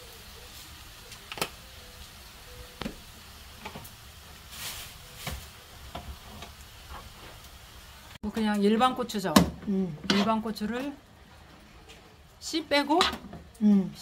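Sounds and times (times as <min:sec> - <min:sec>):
pan sizzling faintly: 0:00.0 - 0:14.0.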